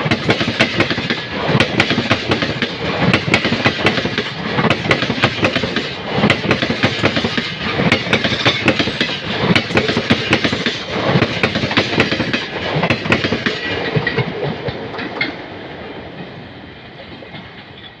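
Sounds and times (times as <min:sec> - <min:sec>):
train wheels clacking on rails: 0:00.0 - 0:18.0.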